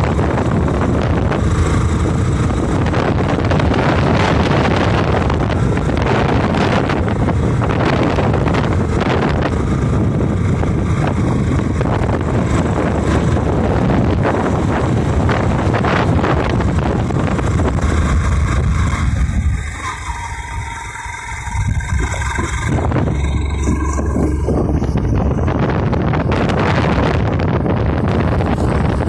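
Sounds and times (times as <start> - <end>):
road and engine noise: 0.0 - 29.0
wind rushing over microphone: 0.0 - 29.0.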